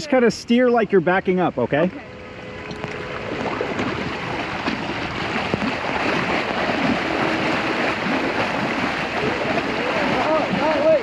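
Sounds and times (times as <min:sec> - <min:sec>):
floodwater sloshing and churning: 0:01.7 - 0:11.0.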